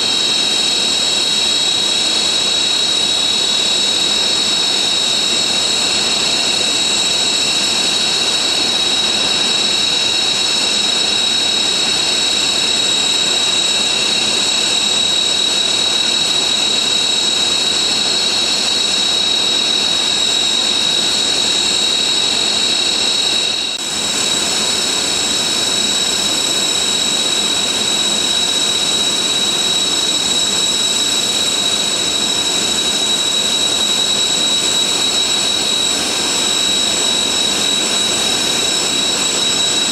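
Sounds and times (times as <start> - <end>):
jet engines idling whine: 0.0 - 39.9.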